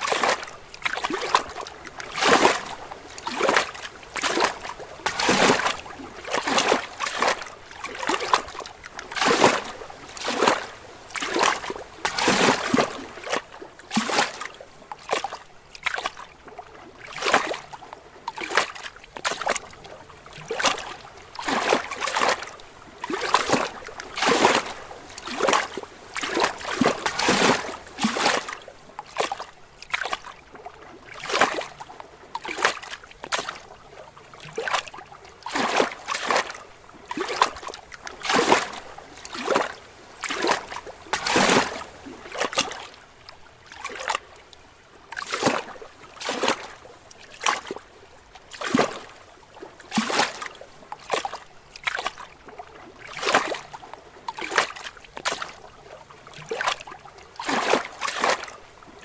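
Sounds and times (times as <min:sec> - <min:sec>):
waves lapping against rocks: 0:00.0 - 0:59.0.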